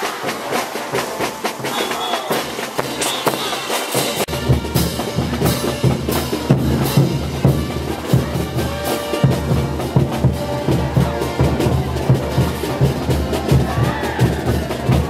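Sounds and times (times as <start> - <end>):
band playing dance music: 0.0 - 15.0
bass drum and snare beat: 0.0 - 15.0
brass melody: 0.0 - 15.0.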